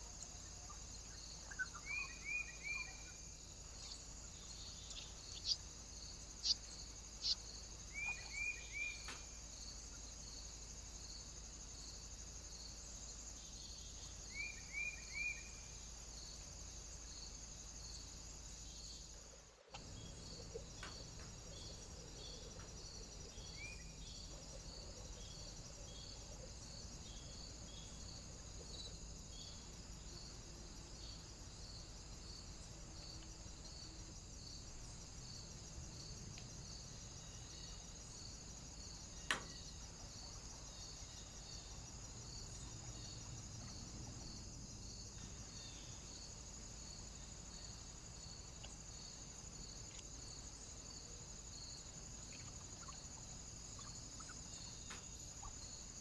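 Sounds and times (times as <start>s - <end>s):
insect trill: 0.0s - 56.0s.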